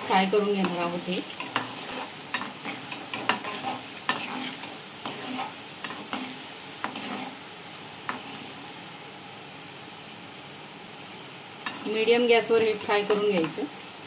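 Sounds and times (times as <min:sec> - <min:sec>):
chickpeas sizzling in oil: 0:00.0 - 0:14.0.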